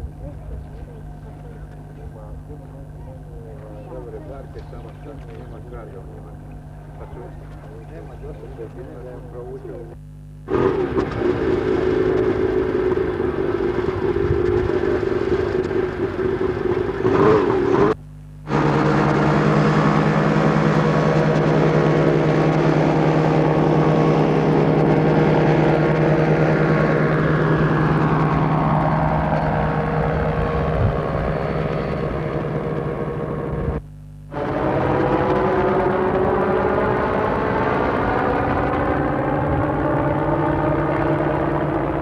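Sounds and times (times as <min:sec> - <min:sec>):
light aircraft engine at high power: 0:00.0 - 0:42.0.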